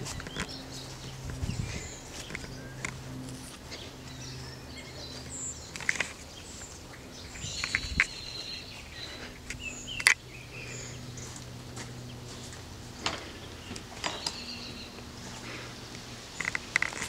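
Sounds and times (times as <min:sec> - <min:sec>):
birds chirping and calling: 0:00.0 - 0:17.0
faint steady hum: 0:00.0 - 0:17.0.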